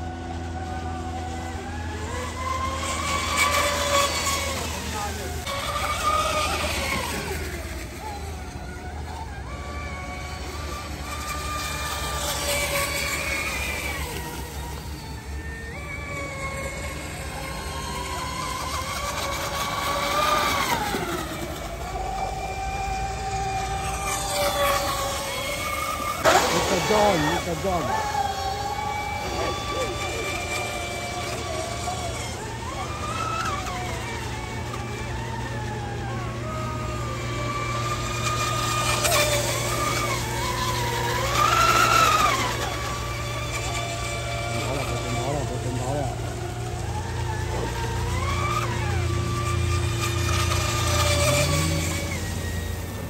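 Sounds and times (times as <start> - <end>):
electric boats whining: 0.0 - 53.0.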